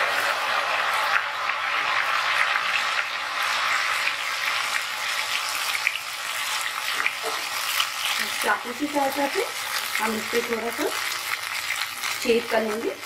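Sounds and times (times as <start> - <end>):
batter deep-frying in hot oil: 0.0 - 13.0.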